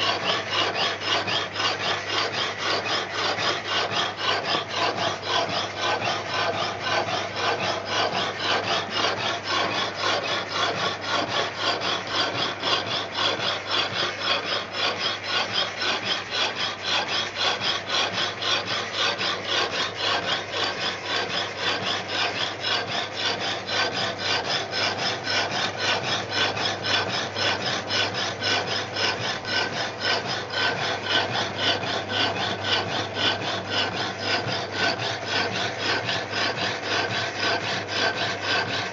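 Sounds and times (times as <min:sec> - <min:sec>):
power hacksaw cutting metal: 0:00.0 - 0:38.9.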